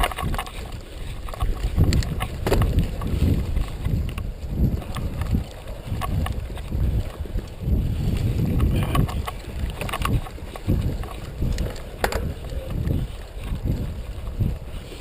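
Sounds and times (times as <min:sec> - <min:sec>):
bike knocks and rattles: 0:00.0 - 0:07.3, 0:08.2 - 0:13.0
wind buffeting microphone: 0:00.0 - 0:15.0.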